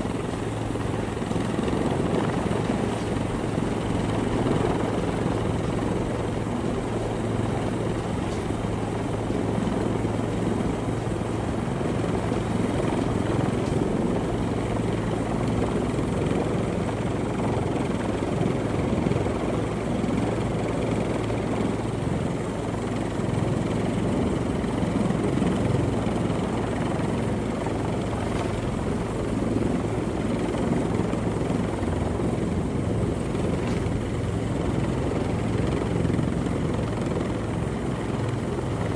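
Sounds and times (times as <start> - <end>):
constant low hum: 0.0 - 38.9
helicopter hovering: 0.0 - 38.9.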